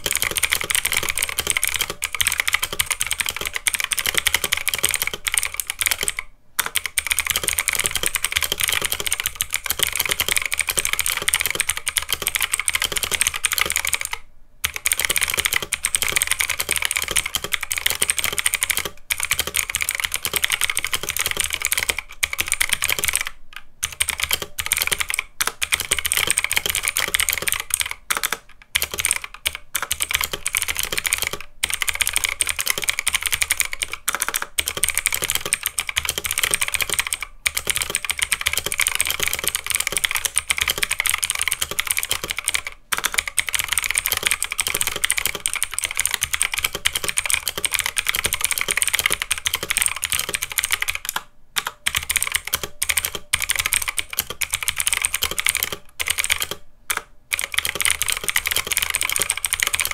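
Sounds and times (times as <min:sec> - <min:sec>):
mechanical keyboard typing clicks: 0:00.0 - 0:59.9.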